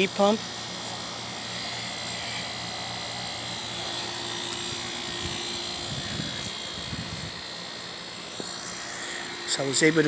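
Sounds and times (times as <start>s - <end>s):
heat pump humming: 0.0s - 10.0s.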